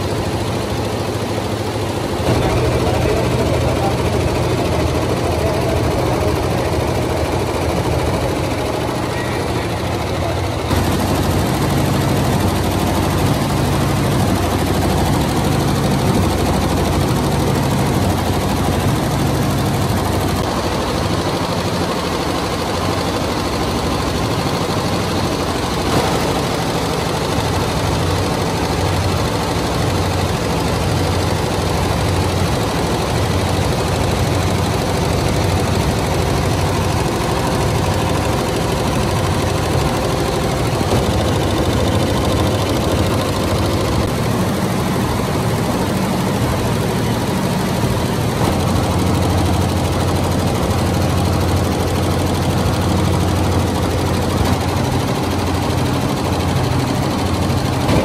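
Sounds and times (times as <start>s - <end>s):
embroidery machine stitching rattle: 0.0s - 58.0s.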